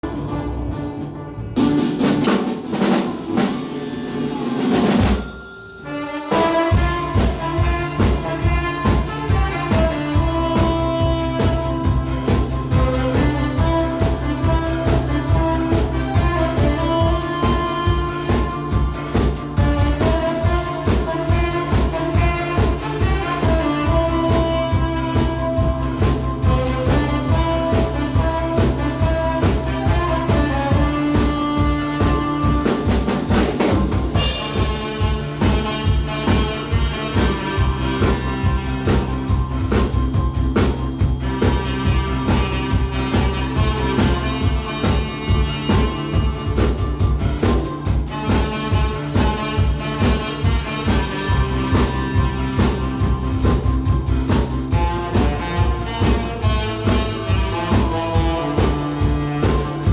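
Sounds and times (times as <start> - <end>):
drum kit beat: 0.0 - 59.9
saxophone melody: 4.8 - 59.9.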